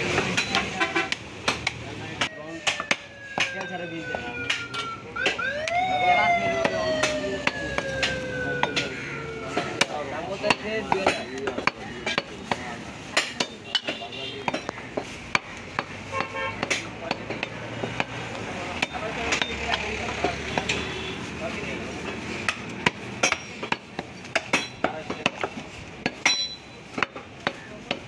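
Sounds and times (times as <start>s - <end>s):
voices chattering: 0.0s - 28.0s.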